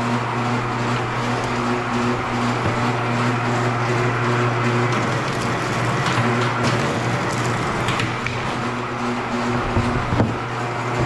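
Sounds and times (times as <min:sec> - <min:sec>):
wire stripping machine motor hum: 0:00.0 - 0:11.0.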